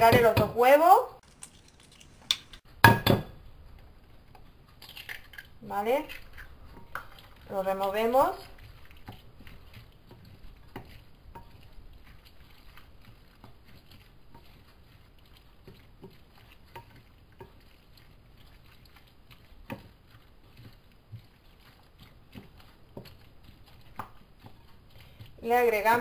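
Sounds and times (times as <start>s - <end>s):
spatula stirring wet food: 3.4s - 26.0s.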